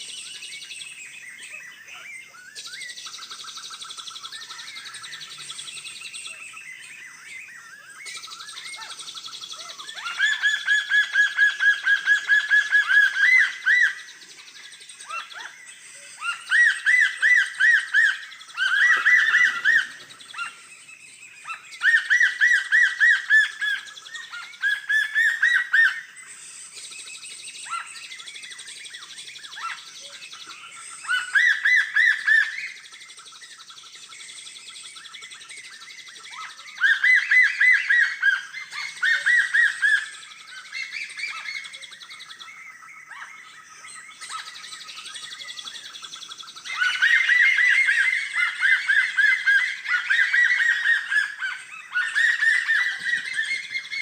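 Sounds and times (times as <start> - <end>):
bird chirping call: 0.0 - 54.0.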